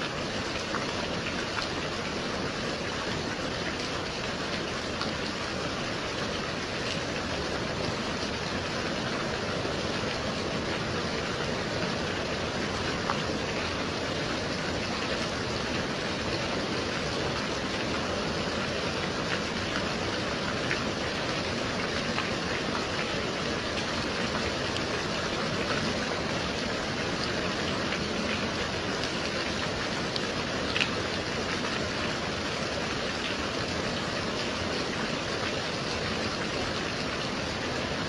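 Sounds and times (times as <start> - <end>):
gentle rain hissing: 0.0 - 38.0.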